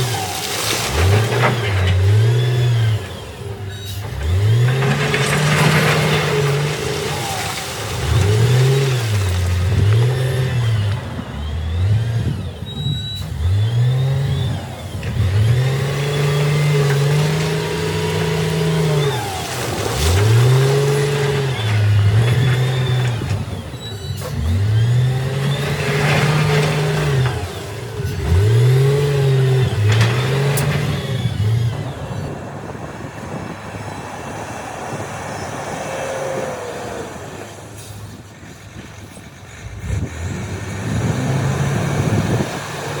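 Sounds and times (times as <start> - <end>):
diesel engine revving under load: 0.0 - 43.0.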